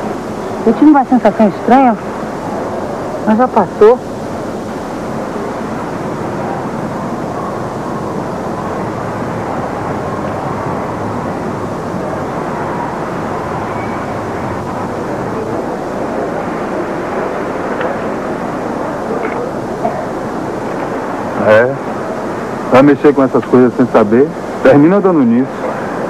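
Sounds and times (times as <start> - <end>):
distant street traffic: 0.0 - 26.0.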